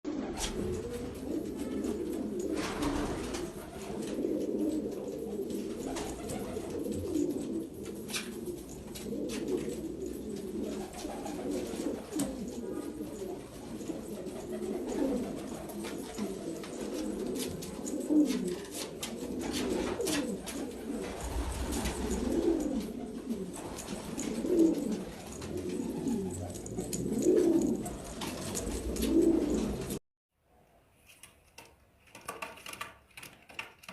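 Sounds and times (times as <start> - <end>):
pigeons cooing: 0.1 - 30.0.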